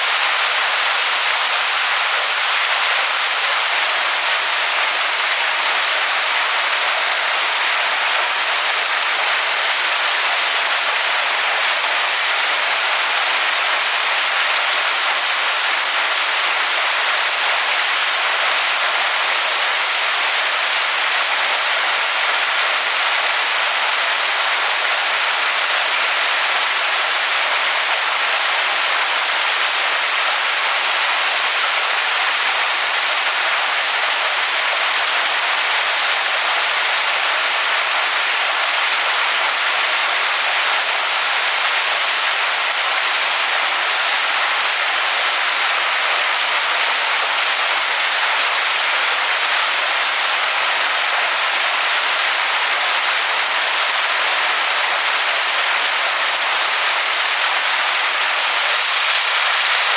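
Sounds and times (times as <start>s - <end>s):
waterfall rushing onto rocks: 0.0s - 59.9s.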